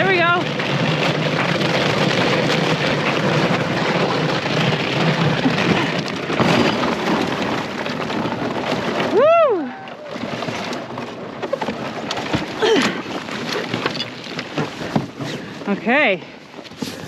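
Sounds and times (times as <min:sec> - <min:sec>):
canoe scraping over ice and snow: 0:00.0 - 0:17.0.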